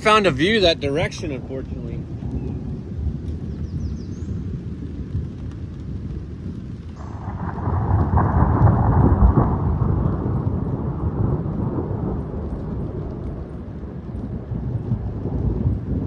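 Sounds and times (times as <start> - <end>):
thunder rolling: 0.0 - 16.0.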